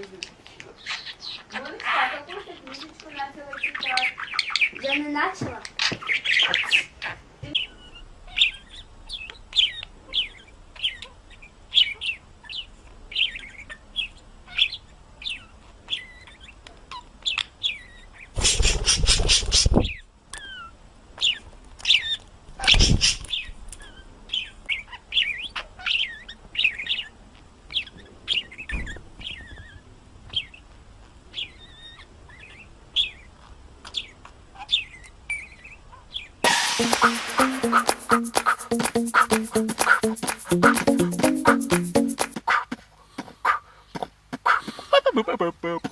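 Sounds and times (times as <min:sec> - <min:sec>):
pet bird chirping: 0:00.8 - 0:30.7, 0:31.3 - 0:42.8.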